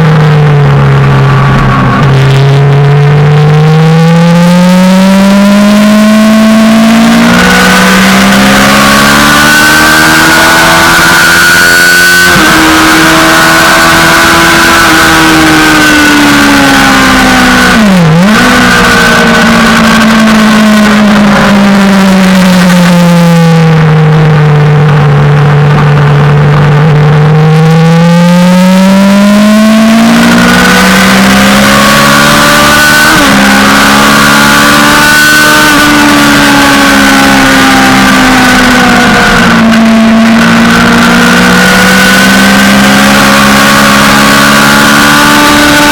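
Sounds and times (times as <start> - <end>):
motorcycle engine running hard: 0.0 - 45.9.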